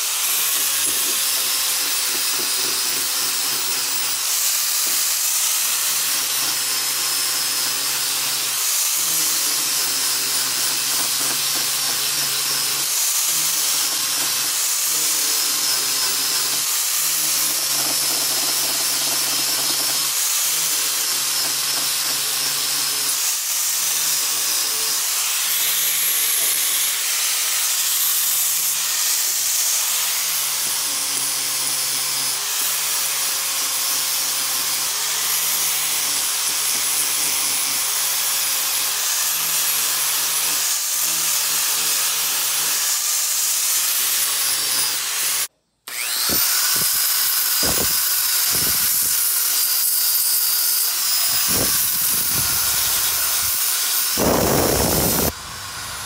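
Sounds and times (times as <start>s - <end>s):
angle grinder grinding: 0.0s - 56.0s.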